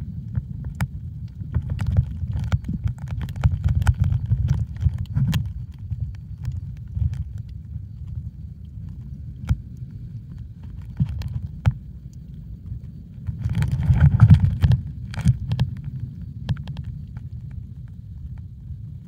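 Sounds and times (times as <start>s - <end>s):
muffled underwater water surging: 0.0s - 19.0s.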